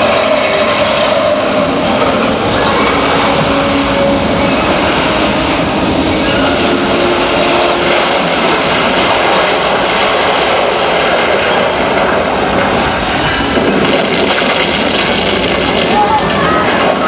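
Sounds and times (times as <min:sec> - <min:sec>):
loud rumbling roar: 0:00.0 - 0:17.0.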